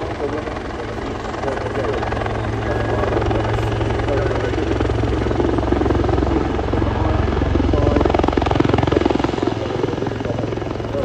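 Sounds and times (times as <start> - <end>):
helicopter engine drone: 0.0 - 11.0
helicopter rotor chop: 0.0 - 11.0.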